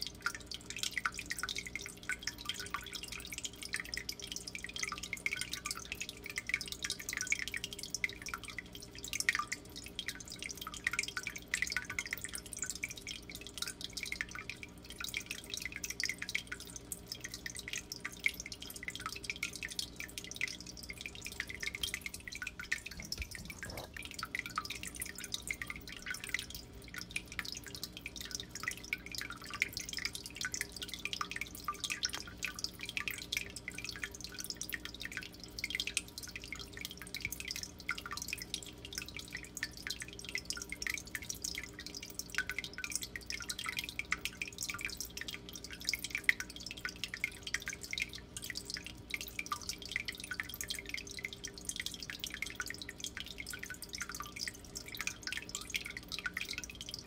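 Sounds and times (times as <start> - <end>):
low electrical hum: 0.0 - 57.0
water dripping: 0.0 - 57.0.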